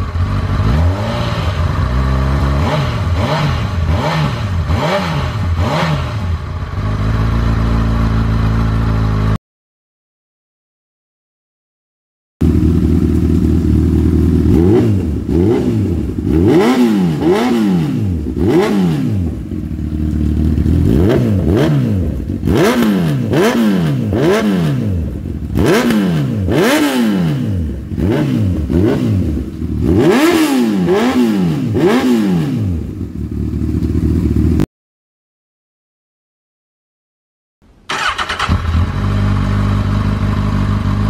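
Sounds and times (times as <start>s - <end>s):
motorcycle engine revving: 0.0s - 9.4s, 12.4s - 34.7s, 37.9s - 41.0s.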